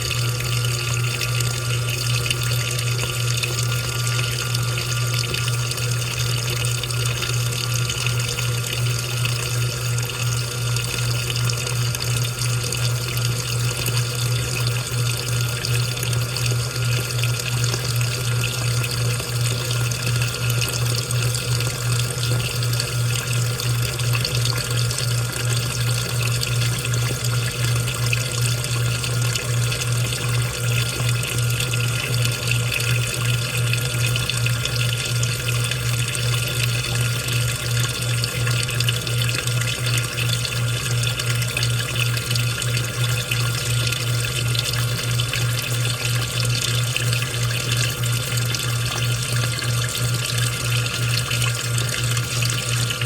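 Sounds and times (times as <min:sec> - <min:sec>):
washing machine motor hum: 0:00.0 - 0:53.0
water splashing in washing machine: 0:00.0 - 0:53.0.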